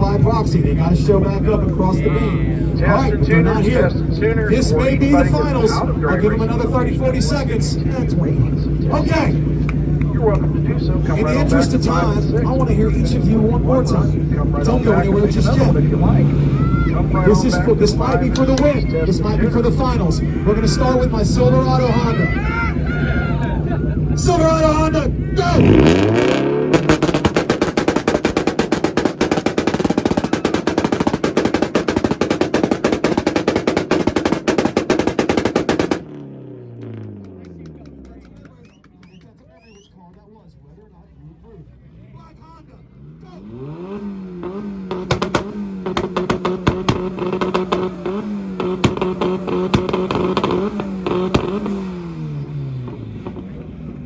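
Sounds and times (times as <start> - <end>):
engine on rev limiter: 0.0 - 38.8, 40.7 - 54.0
exhaust popping: 0.0 - 54.0.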